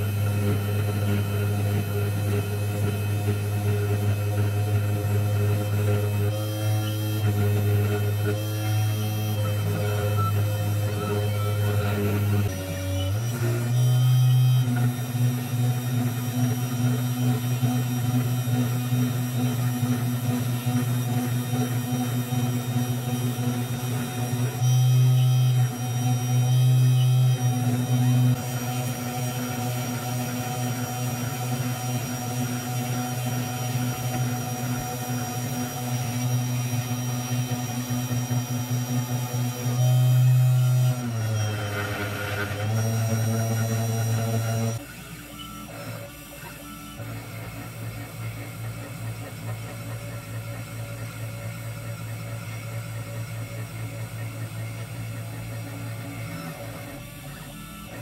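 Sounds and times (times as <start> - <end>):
end mill engraving plastic: 0.0 - 58.0
spindle motor humming: 0.0 - 58.0.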